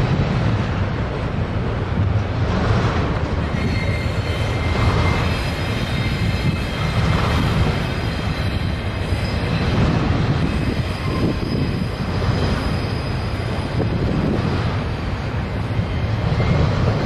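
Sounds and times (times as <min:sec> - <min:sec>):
train rumbling over bridge: 0:00.0 - 0:17.0.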